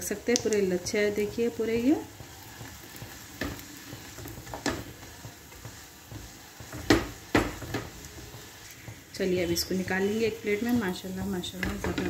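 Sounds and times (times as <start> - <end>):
flatbread sizzling in oil: 0.0 - 12.0
spatula knocking and scraping pan: 0.8 - 12.0.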